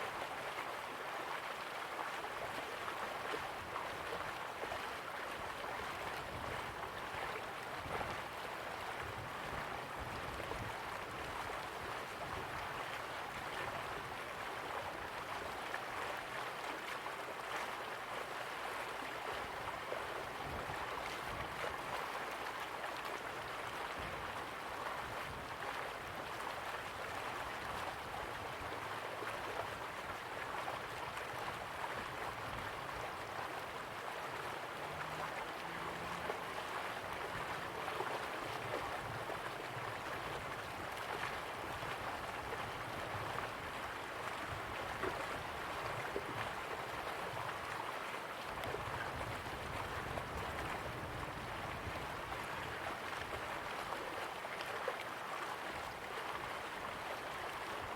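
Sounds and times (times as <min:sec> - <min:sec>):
river water rushing and gurgling: 0:00.0 - 0:57.9.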